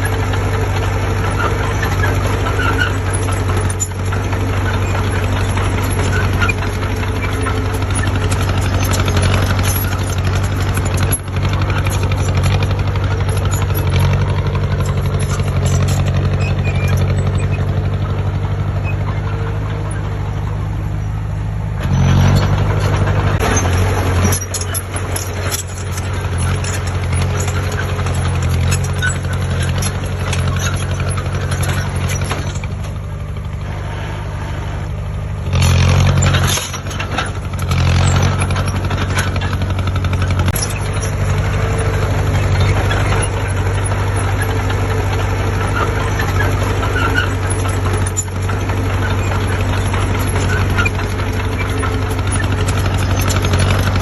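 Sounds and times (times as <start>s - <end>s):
heavy diesel engine running: 0.0s - 54.0s
knocks and rattles: 0.0s - 54.0s.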